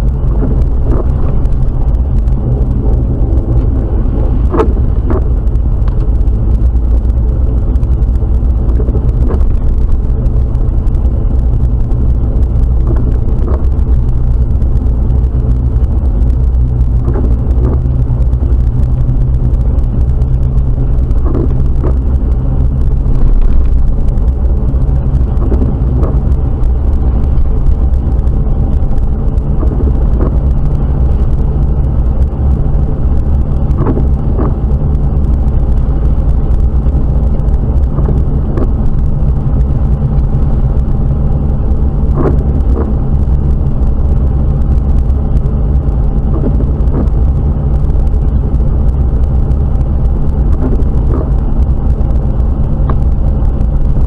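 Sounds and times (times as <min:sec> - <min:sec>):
engine and road noise rumble: 0:00.0 - 0:54.0.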